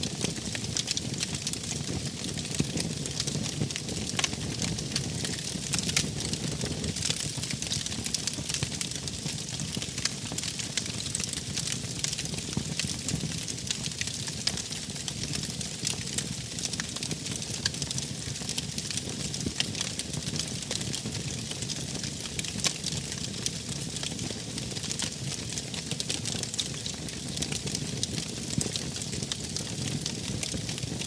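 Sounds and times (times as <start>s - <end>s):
wood fire crackling: 0.1s - 31.0s.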